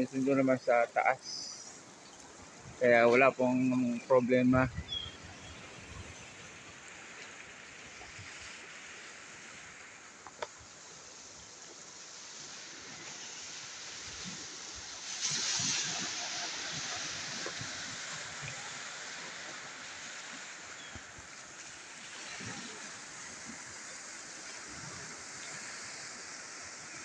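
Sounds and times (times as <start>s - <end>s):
surf washing against rocks: 0.0s - 27.0s.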